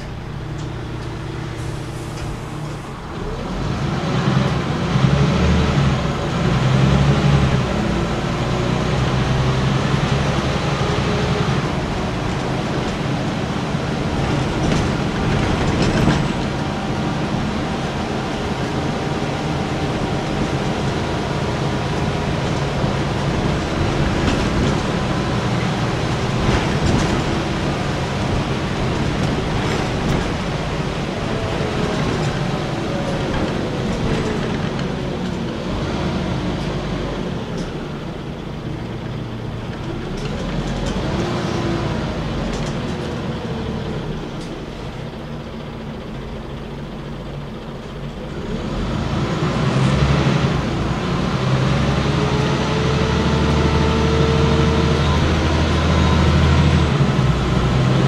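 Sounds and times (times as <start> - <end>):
bus engine pulling away: 0.0 - 58.0
road noise: 0.0 - 58.0.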